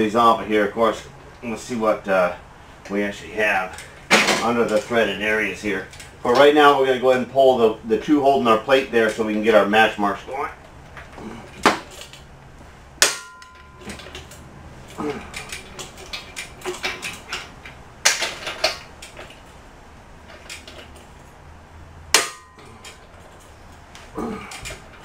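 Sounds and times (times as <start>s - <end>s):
bolts cracking loose: 0.0s - 12.4s, 13.0s - 25.0s.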